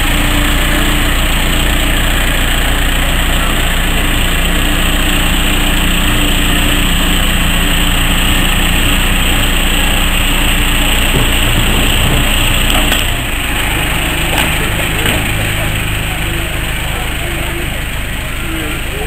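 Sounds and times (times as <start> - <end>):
diesel locomotive engine idling: 0.0 - 19.0.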